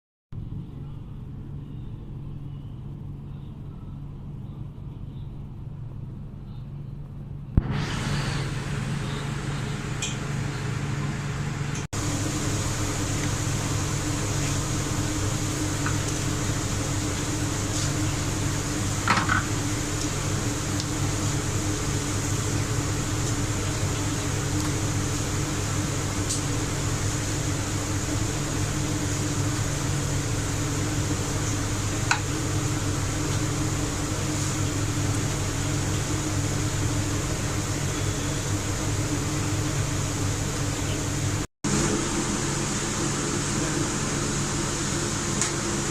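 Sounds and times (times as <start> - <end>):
steady motor hum: 0.4 - 45.9.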